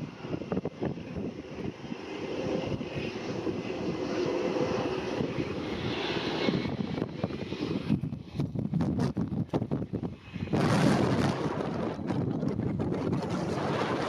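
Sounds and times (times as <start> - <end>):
jet engine whine: 0.0 - 14.0
wind gusting on microphone: 0.0 - 14.0.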